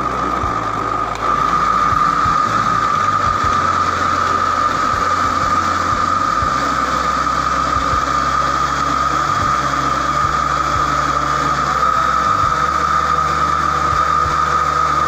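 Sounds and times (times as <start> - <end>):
blender motor whining: 0.0 - 15.0.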